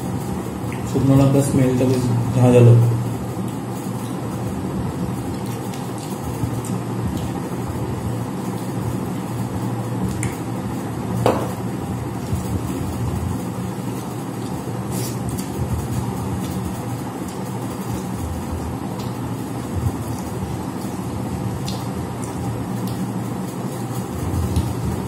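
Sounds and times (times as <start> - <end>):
low background rumble and hum: 0.0 - 25.0.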